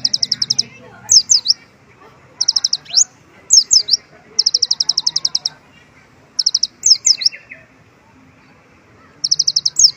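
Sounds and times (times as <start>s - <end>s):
sunbird singing: 0.0s - 7.8s, 8.4s - 9.9s.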